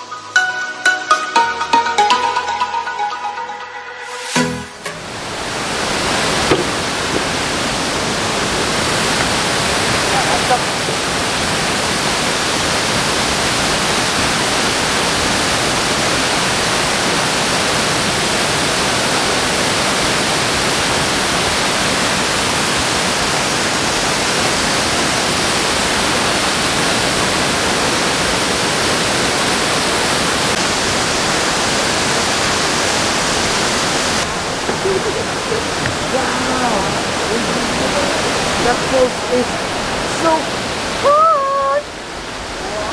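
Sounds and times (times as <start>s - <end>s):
waterfall rushing: 4.1s - 42.9s.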